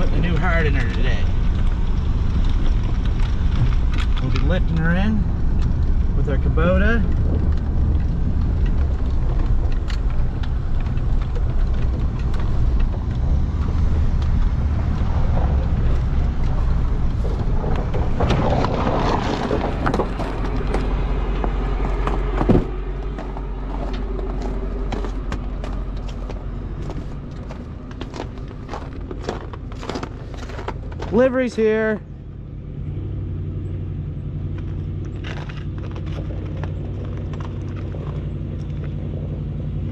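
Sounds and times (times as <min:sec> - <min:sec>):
engine clicks and knocks: 0:00.0 - 0:32.8, 0:33.6 - 0:39.9
engine running low rumble: 0:00.0 - 0:39.9.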